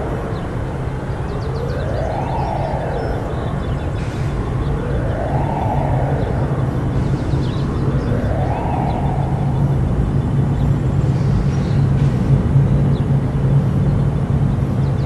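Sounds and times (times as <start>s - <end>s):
distant warning siren: 0.0s - 14.8s
steady low rumble: 1.0s - 14.8s.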